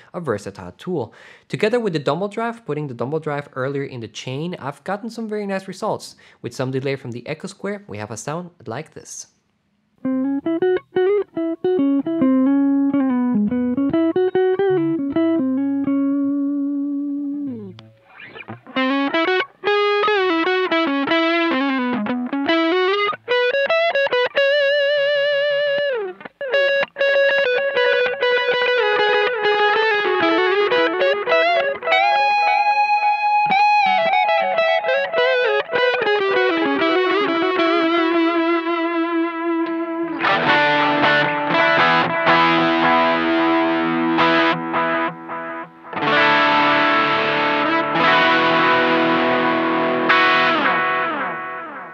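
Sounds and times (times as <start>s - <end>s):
overdriven electric guitar solo: 10.0s - 51.9s.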